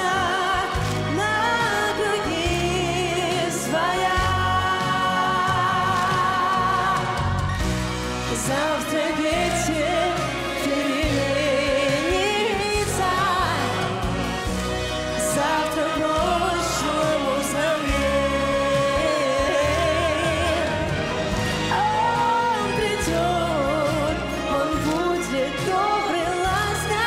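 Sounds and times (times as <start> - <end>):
band backing: 0.0 - 27.0
woman singing pop ballad: 0.0 - 27.0.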